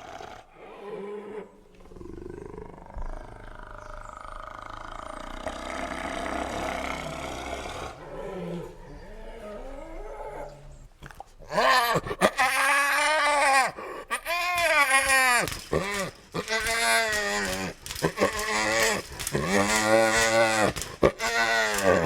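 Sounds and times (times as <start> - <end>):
low animal growls: 0.0 - 12.4, 15.5 - 22.0
animal roar: 0.0 - 22.0.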